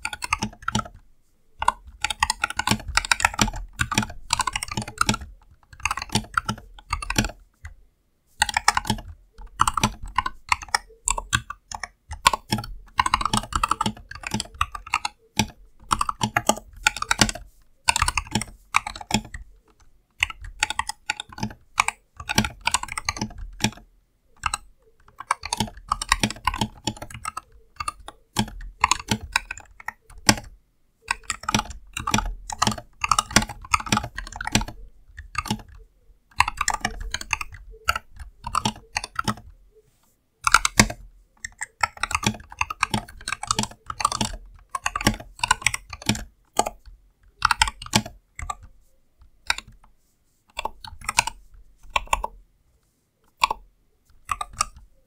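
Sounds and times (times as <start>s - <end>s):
mechanical keyboard typing: 0.0s - 7.8s, 8.4s - 39.7s, 40.4s - 52.4s, 53.2s - 55.0s.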